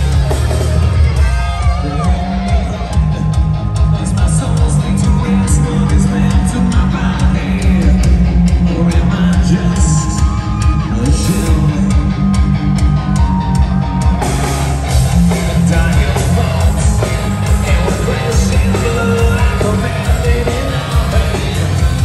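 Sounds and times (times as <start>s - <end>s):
drum kit: 0.0s - 22.0s
electric guitars: 0.0s - 22.0s
person singing: 0.1s - 12.3s, 15.1s - 22.0s.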